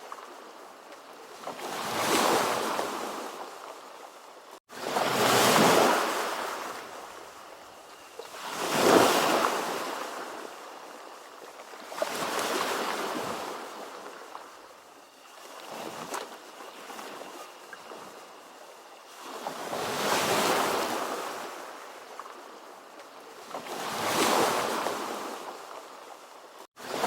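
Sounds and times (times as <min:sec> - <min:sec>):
ocean waves washing in: 0:00.0 - 0:27.0.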